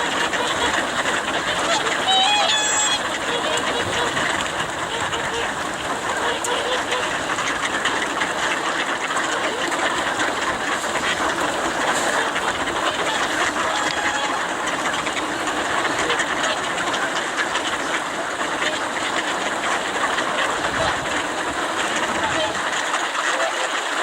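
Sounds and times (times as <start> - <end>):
swans and waterfowl calling: 0.0 - 24.0
water splashing: 0.0 - 24.0.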